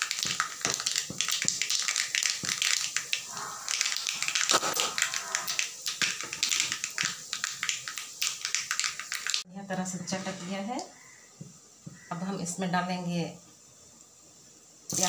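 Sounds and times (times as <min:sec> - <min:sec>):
spices crackling in hot oil: 0:00.0 - 0:15.0.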